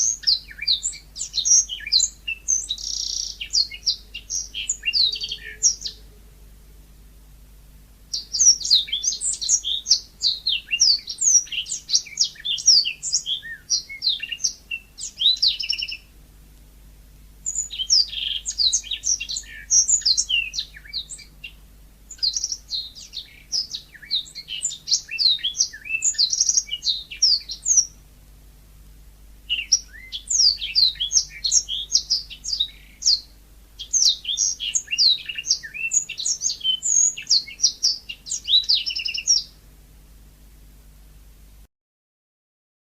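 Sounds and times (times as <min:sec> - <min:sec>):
canary singing twittering song: 0:00.0 - 0:06.2, 0:08.1 - 0:16.1, 0:17.4 - 0:28.0, 0:29.4 - 0:39.6.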